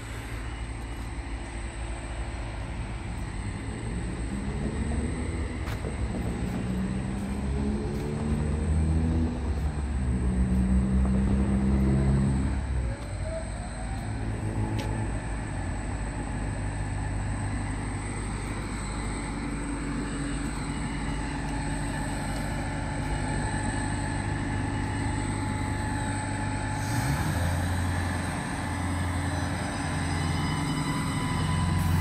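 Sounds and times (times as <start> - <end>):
diesel railcar engine drone: 0.0 - 32.0.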